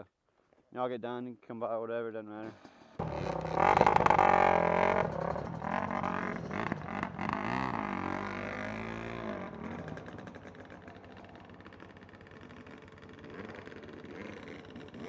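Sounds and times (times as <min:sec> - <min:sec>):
dirt bike engines revving: 0:02.4 - 0:15.0.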